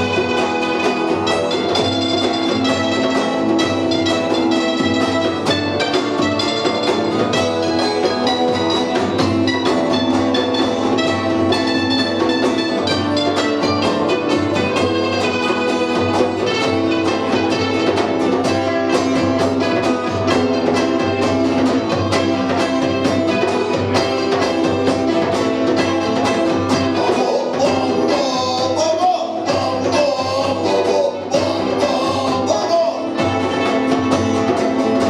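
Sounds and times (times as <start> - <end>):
punk rock band playing live: 0.0 - 35.0.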